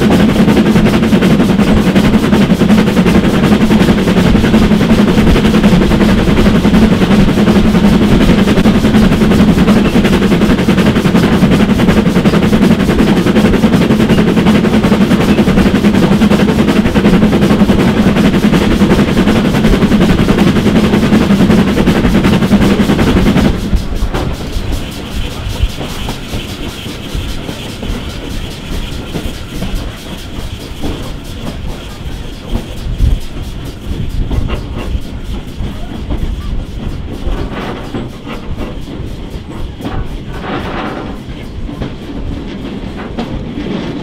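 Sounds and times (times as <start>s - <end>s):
steam locomotive exhaust beating: 0.0s - 44.0s.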